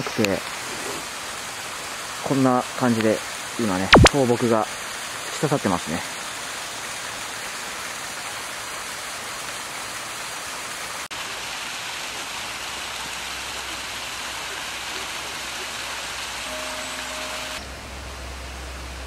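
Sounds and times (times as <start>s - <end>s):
small waterfall rushing: 0.0s - 19.0s.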